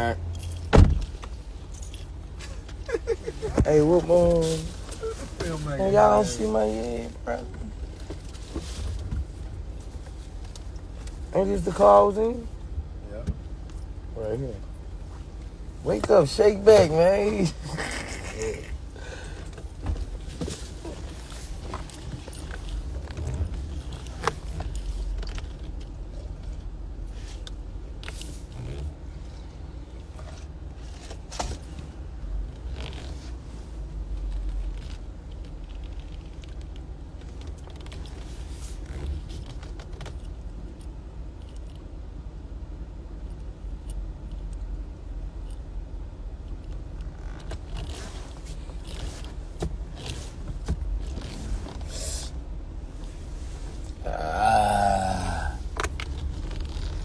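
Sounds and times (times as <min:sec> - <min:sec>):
car engine rumble: 0:00.0 - 0:57.0.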